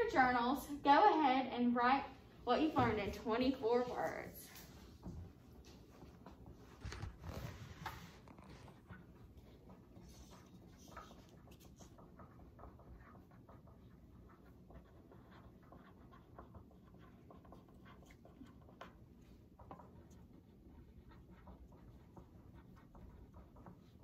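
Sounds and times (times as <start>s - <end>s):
low room hum: 0.0s - 24.0s
pens scratching on paper: 2.6s - 24.0s.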